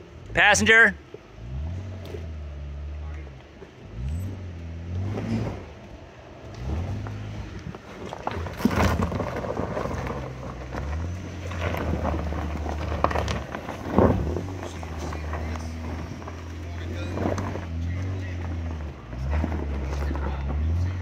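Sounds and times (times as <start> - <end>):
tyres crunching over gravel: 1.6 - 21.0.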